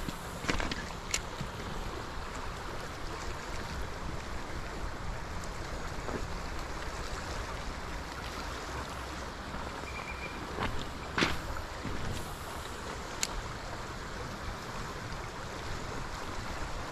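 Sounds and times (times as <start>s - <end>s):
river water rushing over gravel: 0.0s - 16.9s.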